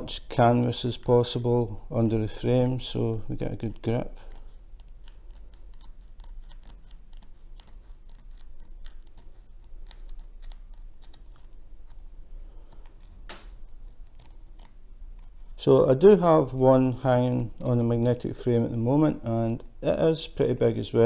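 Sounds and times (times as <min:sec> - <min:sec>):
scissors snipping canvas: 0:00.0 - 0:12.0, 0:12.7 - 0:19.8.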